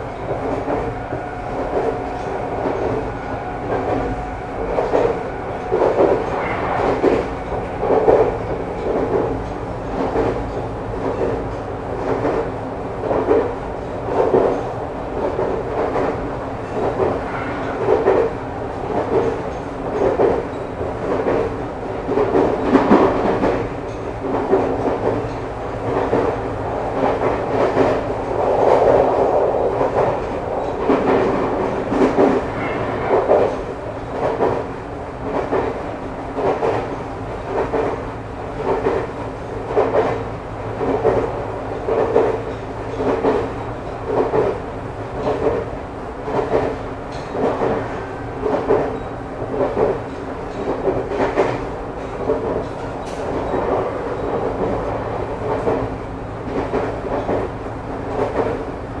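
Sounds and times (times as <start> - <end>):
steady train hum: 0.0 - 59.0
train wheels clacking over rail joints: 0.2 - 58.8.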